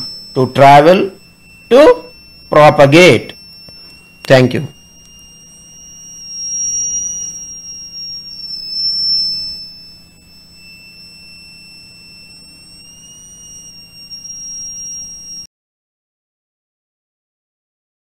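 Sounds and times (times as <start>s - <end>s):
high-pitched buzzer tone: 0.0s - 15.5s.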